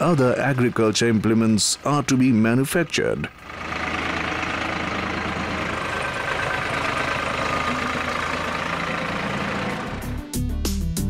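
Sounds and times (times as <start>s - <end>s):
tractor diesel engine running: 0.0s - 10.6s.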